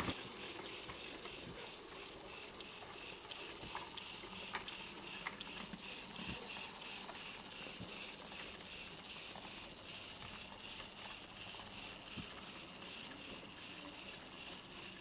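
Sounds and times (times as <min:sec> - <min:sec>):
model train motor whirring: 0:00.0 - 0:15.0
wheels clicking on rails: 0:00.0 - 0:15.0.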